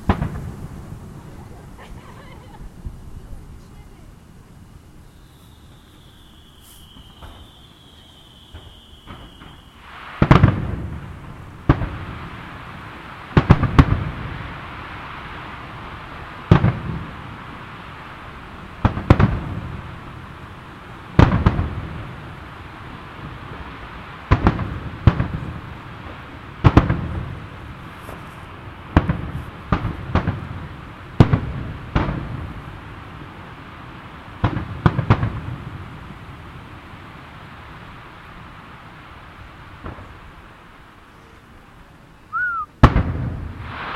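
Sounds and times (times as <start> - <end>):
fireworks booming: 0.0 - 43.9.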